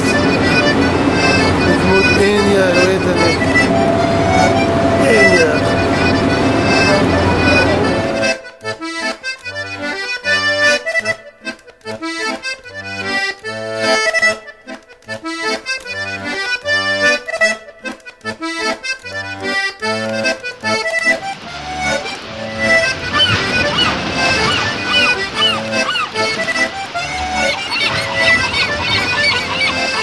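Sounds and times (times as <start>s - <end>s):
accordion music: 0.0s - 30.0s.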